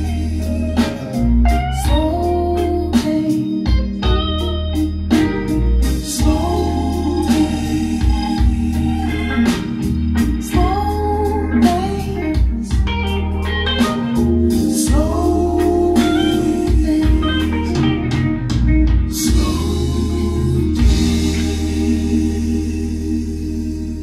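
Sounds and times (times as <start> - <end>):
electric guitar lead: 0.0 - 22.6
deep bass line: 0.0 - 24.0
organ: 0.0 - 24.0.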